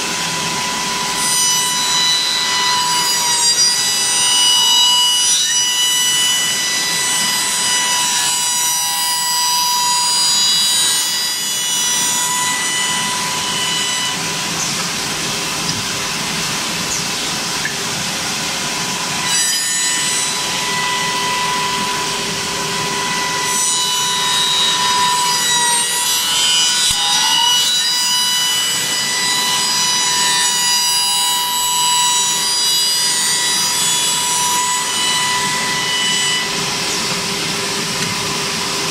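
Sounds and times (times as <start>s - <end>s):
spindle cutter high whine: 0.0s - 38.9s.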